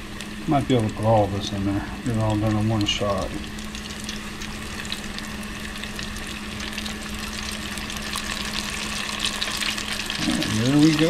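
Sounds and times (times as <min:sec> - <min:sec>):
deep-frying in hot oil: 0:00.0 - 0:11.0.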